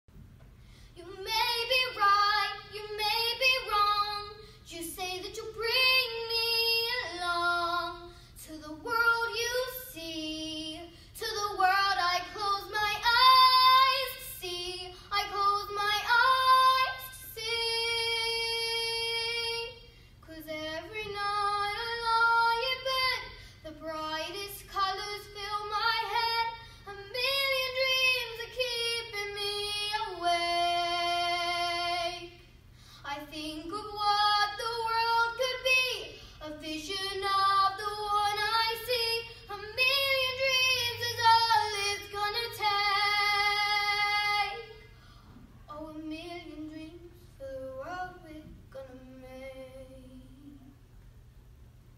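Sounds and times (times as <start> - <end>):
girl singing unaccompanied: 1.0 - 45.0, 45.6 - 50.7.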